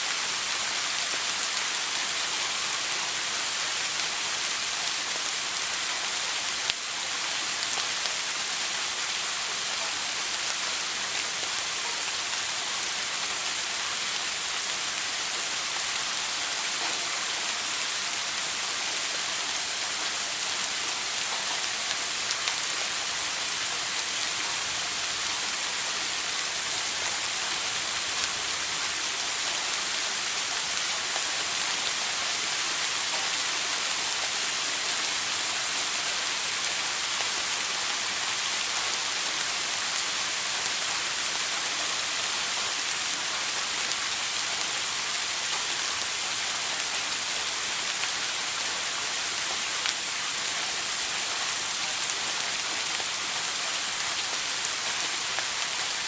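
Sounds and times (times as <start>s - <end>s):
shower spray hissing: 0.0s - 56.0s.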